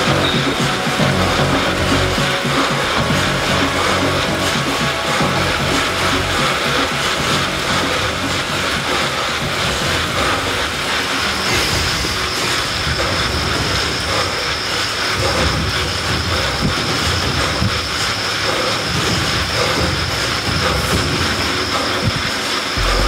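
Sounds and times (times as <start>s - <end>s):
bike trainer whirring rumble: 0.0s - 23.0s
thin high whine: 0.0s - 23.0s.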